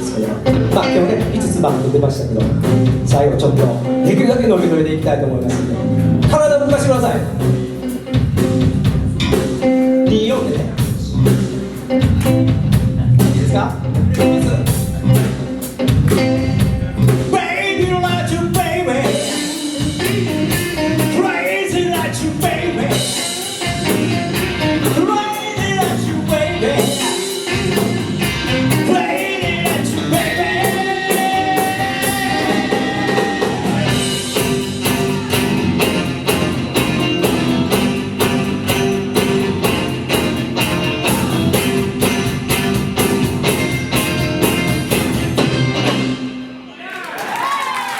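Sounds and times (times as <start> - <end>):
live soul-blues band: 0.0 - 46.6.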